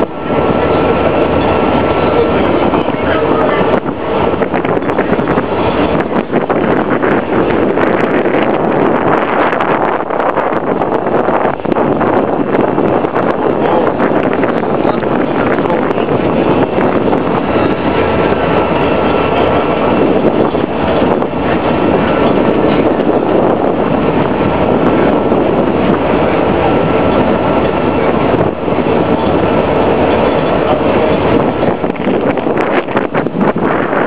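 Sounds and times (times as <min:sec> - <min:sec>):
ferry engine rumble: 0:00.0 - 0:34.0
wind on microphone: 0:00.0 - 0:34.0.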